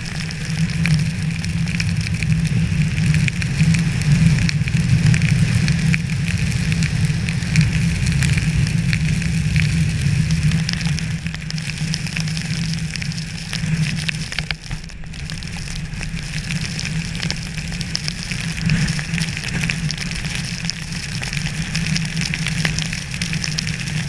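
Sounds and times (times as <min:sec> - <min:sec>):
rain pattering on hard surfaces: 0:00.0 - 0:24.0.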